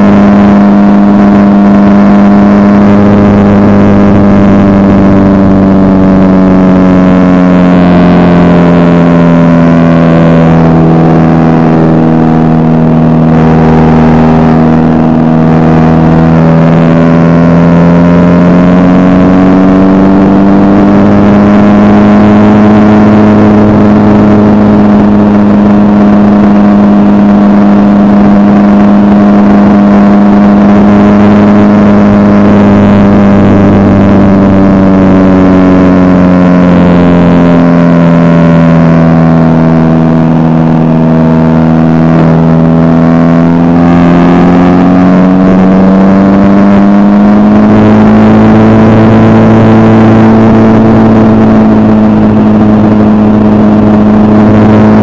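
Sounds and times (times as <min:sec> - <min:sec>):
propeller plane engine drone: 0:00.0 - 0:55.0.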